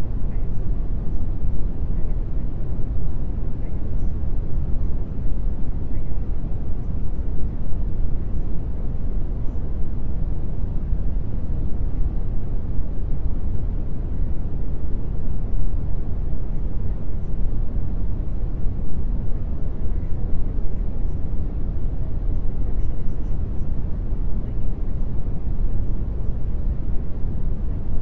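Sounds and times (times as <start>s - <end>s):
steady low rumbling noise: 0.0s - 28.0s.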